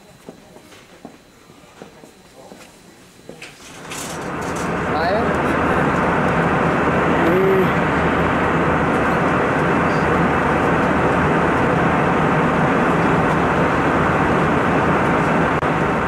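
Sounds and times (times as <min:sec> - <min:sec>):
airliner cabin engine noise: 0:00.0 - 0:16.0.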